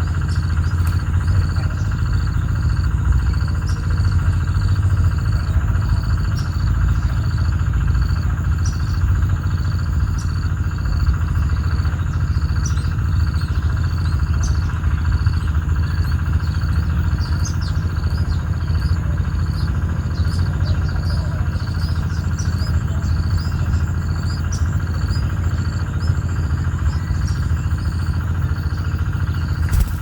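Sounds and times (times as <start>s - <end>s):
loud steady low hum: 0.0s - 30.0s
small birds chirping: 0.0s - 30.0s.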